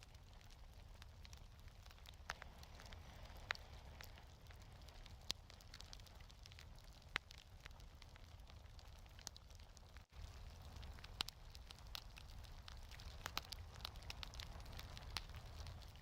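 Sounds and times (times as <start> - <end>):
burning wood popping: 0.0 - 16.0
fireplace fire crackling: 0.0 - 16.0.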